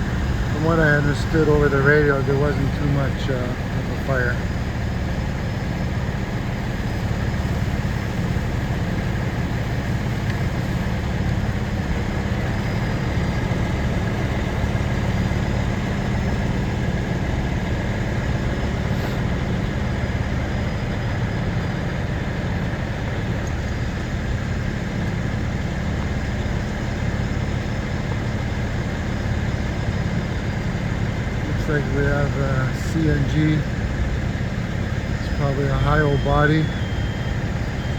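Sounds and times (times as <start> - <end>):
heavy truck engines idling: 0.0 - 37.9.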